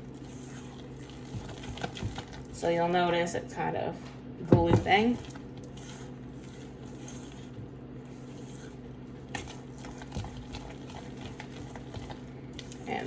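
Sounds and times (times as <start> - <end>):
spatula squishing and scraping batter: 0.0 - 3.0, 4.5 - 13.0.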